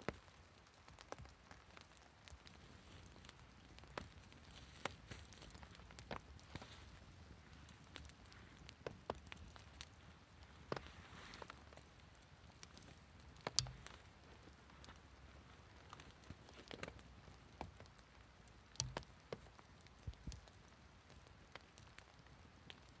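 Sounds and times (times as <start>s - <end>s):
faint clicks and soft taps: 0.0s - 23.0s
quiet hiss: 0.0s - 23.0s.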